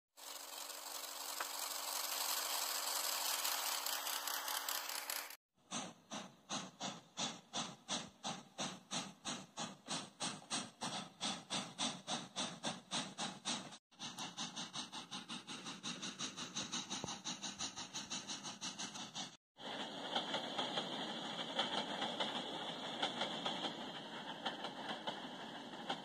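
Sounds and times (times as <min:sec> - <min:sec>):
steam locomotive chuffing: 0:00.2 - 0:26.0.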